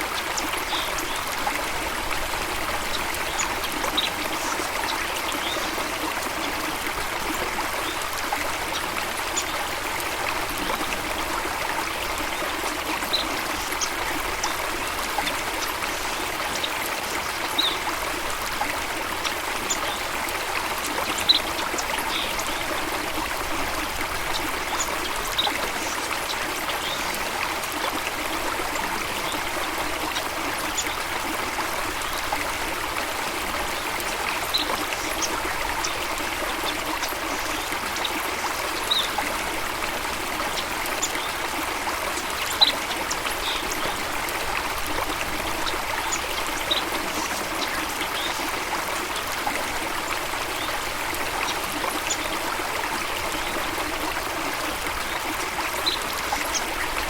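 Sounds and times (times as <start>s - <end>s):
water rushing in a stream: 0.0s - 57.0s.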